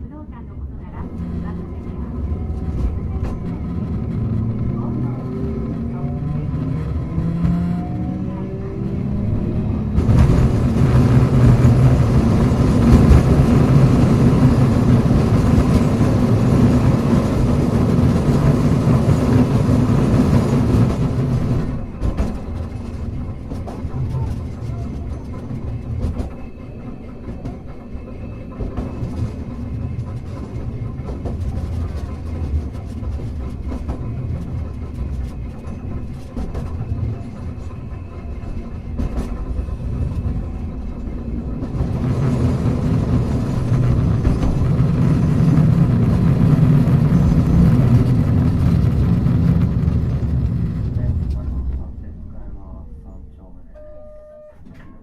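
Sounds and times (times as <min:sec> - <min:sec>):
tram wheels rumbling on rail: 0:00.0 - 0:53.8.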